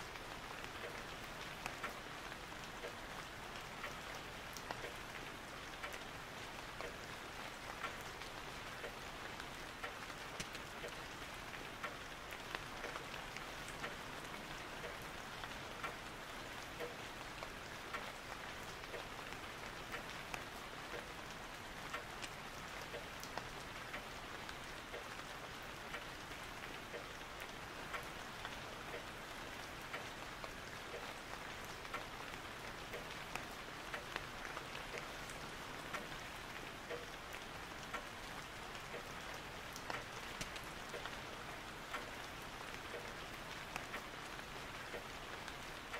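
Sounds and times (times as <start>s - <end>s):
rain-like patter: 0.0s - 45.9s.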